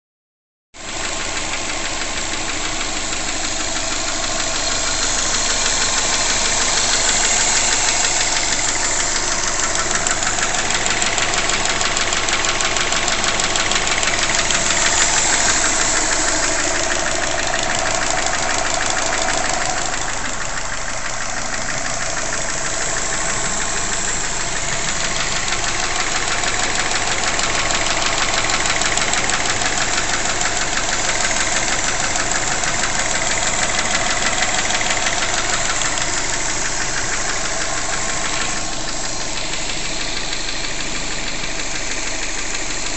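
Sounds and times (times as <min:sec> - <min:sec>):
car engine running with knocking clatter: 0:00.7 - 0:42.9.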